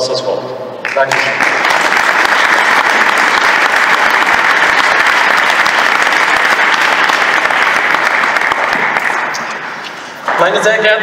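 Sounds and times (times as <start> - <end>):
audience applauding: 0.8 - 10.4.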